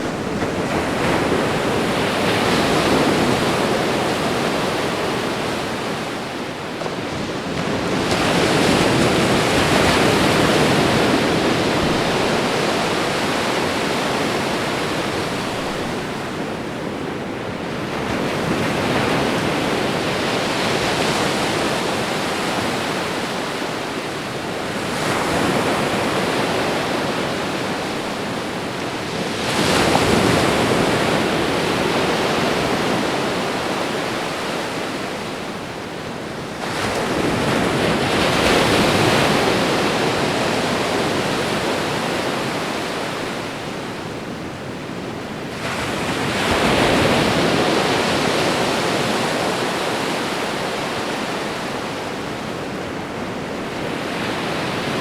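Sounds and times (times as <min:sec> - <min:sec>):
ocean waves washing onto shore: 0:00.0 - 0:55.0.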